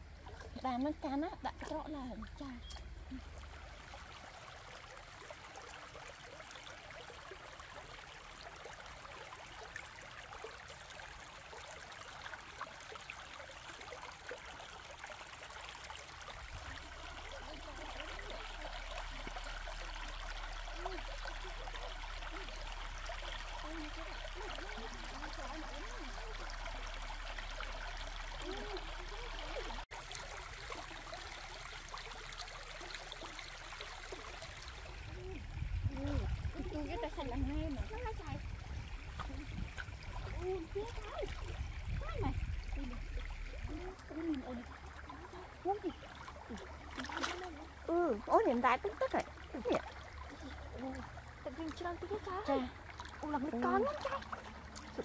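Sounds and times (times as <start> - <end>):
stream running over stones: 0.0 - 55.0.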